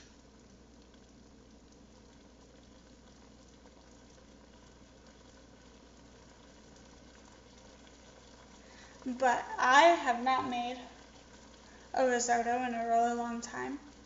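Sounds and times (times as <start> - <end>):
risotto bubbling and sizzling in pan: 0.0 - 14.0.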